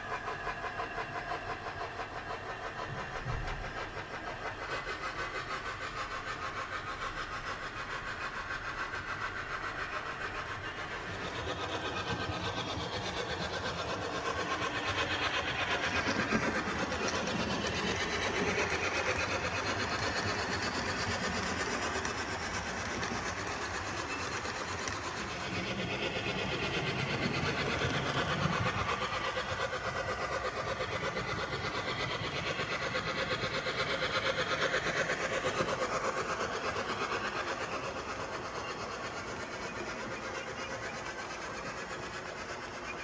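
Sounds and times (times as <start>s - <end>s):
model steam locomotive chuffs: 0.0s - 43.0s.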